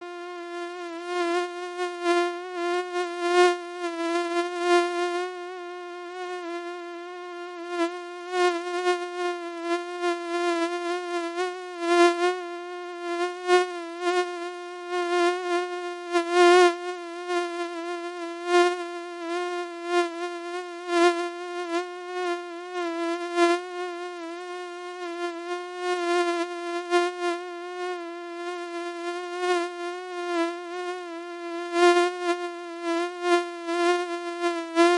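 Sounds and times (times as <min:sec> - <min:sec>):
mosquito wing whine: 0:00.0 - 0:34.9.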